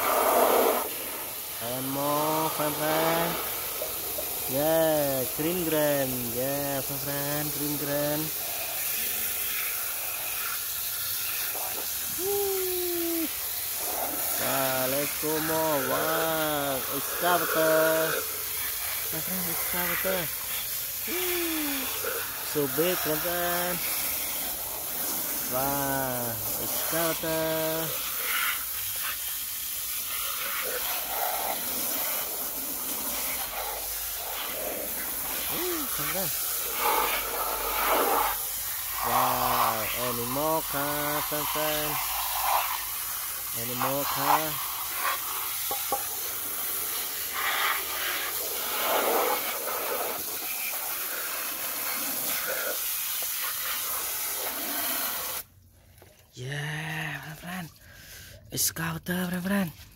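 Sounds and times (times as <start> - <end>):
hose nozzle spraying water: 0.0 - 56.3.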